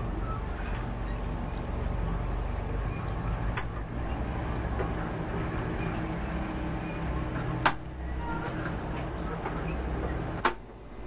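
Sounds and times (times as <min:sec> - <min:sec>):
boat engines rumbling: 0:00.0 - 0:11.0.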